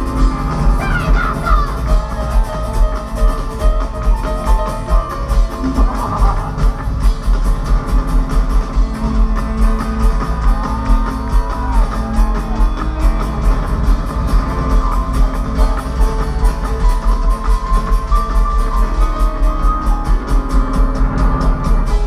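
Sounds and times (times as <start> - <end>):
live band music with fast beat: 0.0 - 22.0.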